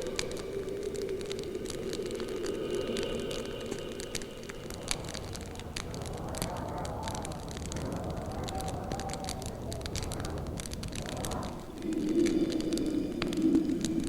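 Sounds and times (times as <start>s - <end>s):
distant wolf howl: 0.0s - 14.0s
wood fire crackling and popping: 0.0s - 14.0s.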